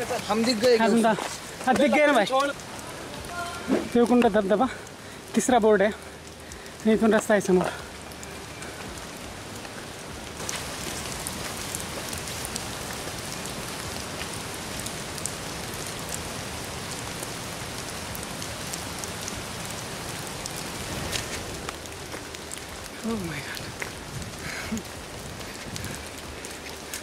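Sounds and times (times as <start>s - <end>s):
rain falling on foliage: 0.0s - 27.0s
raindrop ticks: 0.0s - 27.0s.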